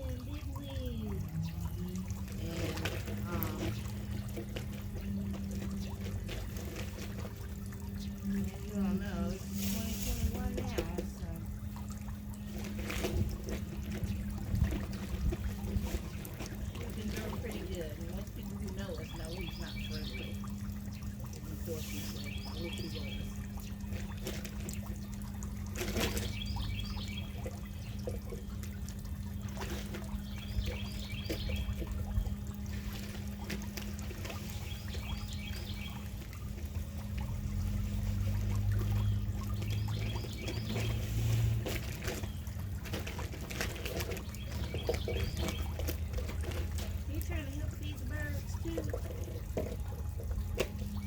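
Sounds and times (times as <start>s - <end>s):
low hum: 0.0s - 51.0s
songbird singing: 0.0s - 51.0s
water trickling: 0.0s - 51.0s.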